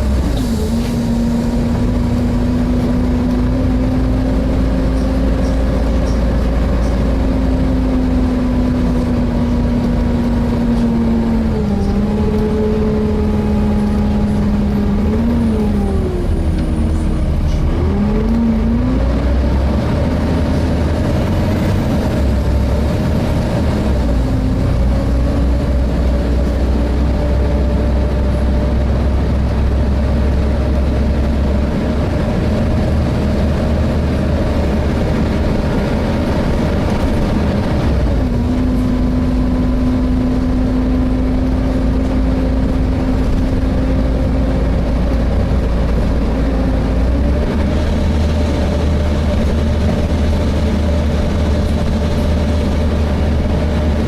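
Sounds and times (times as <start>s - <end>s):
bus diesel engine rumble: 0.0s - 54.0s
engine whine: 0.0s - 54.0s.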